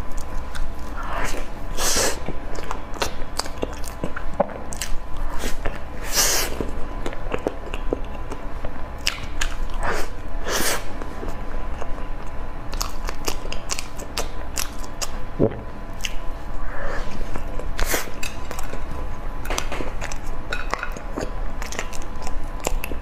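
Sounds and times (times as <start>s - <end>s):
biting and chewing pastry: 0.0s - 15.2s, 15.9s - 23.0s.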